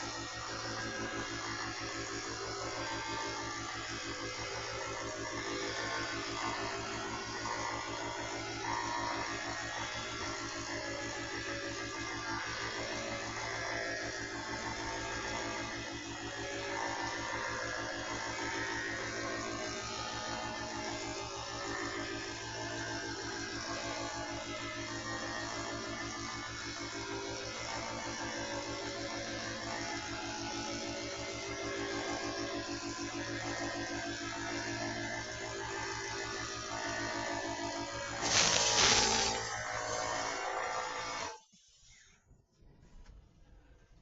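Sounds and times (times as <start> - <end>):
air compressor pulsing hum: 0.0 - 41.4.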